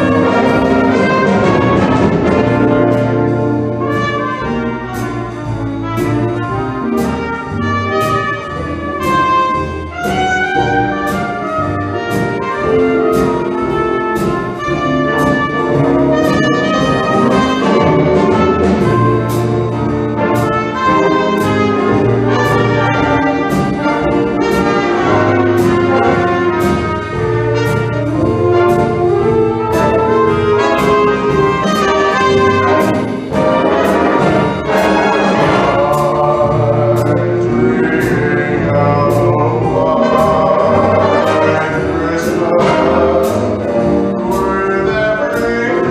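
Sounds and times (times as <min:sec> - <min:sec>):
wind band with brass playing: 0:00.0 - 0:45.9.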